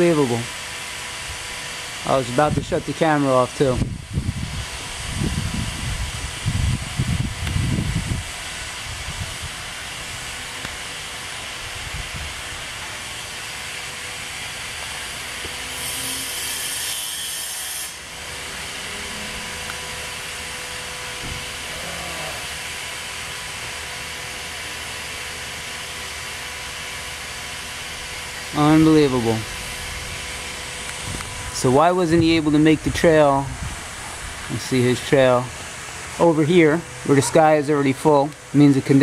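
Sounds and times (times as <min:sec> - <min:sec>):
outdoor background hiss: 0:00.0 - 0:39.0.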